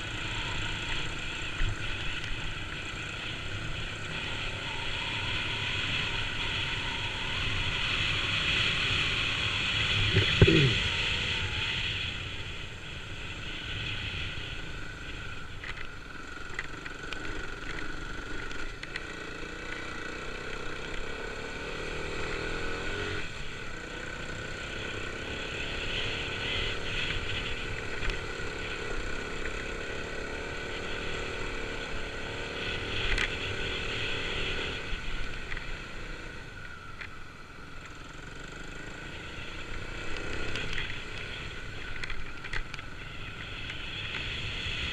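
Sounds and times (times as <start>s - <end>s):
motorcycle engine revving: 0.0s - 36.6s, 37.8s - 44.9s.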